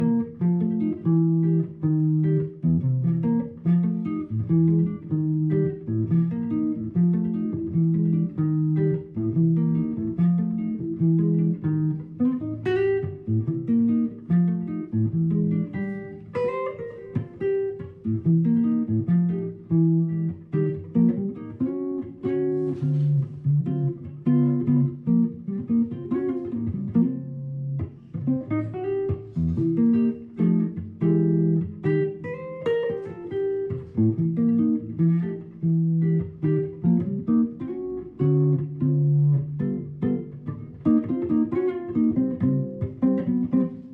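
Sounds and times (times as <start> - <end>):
acoustic guitar music: 0.0 - 43.9.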